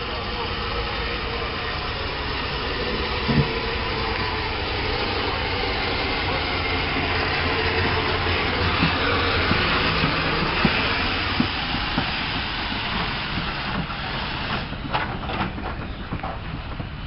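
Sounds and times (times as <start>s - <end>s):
steam wagon rumbling and hissing: 0.0s - 17.0s.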